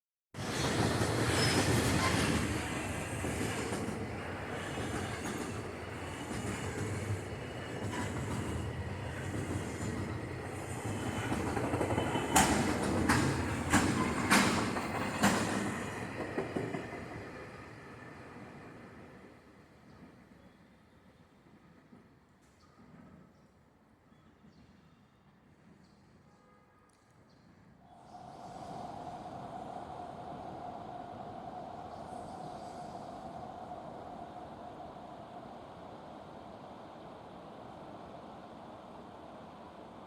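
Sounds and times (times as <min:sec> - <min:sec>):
train rumbling on rails: 0:00.4 - 0:20.3, 0:27.9 - 0:40.0.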